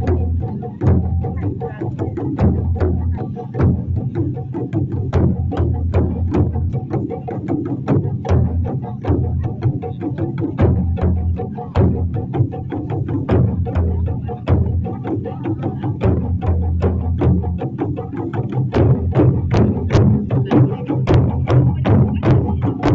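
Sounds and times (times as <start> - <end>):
taiko drums playing: 0.0 - 22.9.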